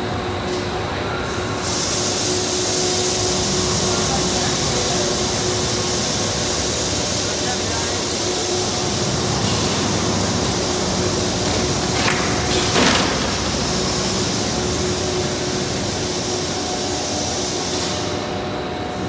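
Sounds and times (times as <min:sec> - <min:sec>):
loud machine noise: 0:00.0 - 0:19.0.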